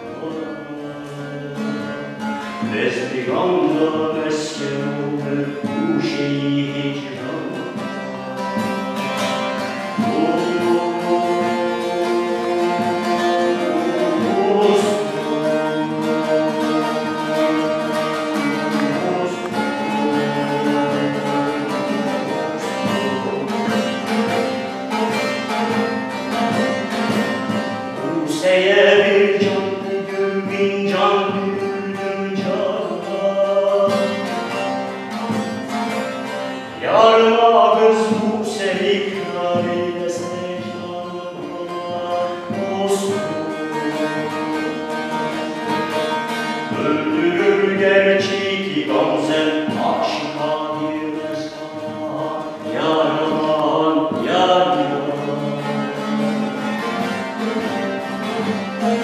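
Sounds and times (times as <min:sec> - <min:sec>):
person singing: 0:00.0 - 0:35.4, 0:36.2 - 0:57.8
plucked string music: 0:00.0 - 0:59.0.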